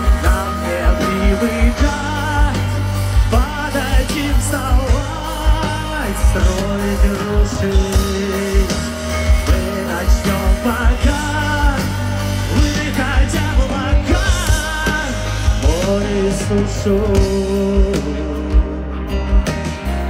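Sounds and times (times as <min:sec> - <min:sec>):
drum beat: 0:00.0 - 0:18.1
live rock band: 0:00.0 - 0:20.0.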